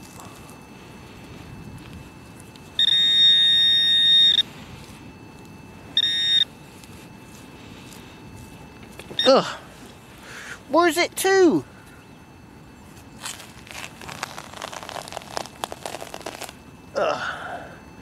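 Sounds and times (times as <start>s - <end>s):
metal detector probe buzzing: 0.0s - 16.7s.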